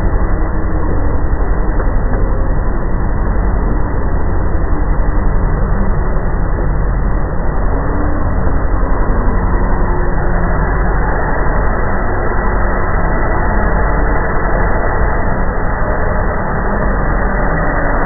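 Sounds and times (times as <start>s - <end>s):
loud low drone in sky: 0.0s - 18.0s.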